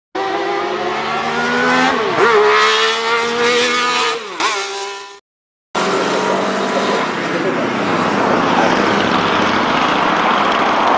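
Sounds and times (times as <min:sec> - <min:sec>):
high-revving engine under load: 0:00.2 - 0:05.2, 0:05.8 - 0:10.9.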